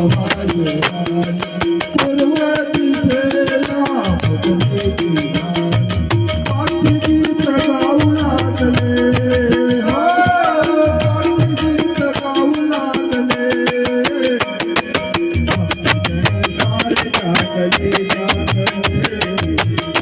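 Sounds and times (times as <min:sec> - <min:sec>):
rattling shaker percussion: 0:00.0 - 0:20.0.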